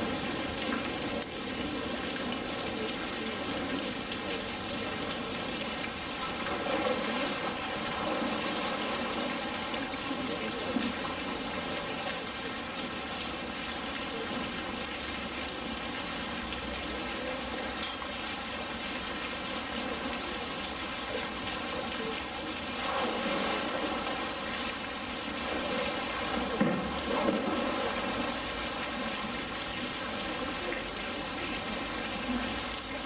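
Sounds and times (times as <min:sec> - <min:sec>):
running water rushing: 0:00.0 - 0:33.0.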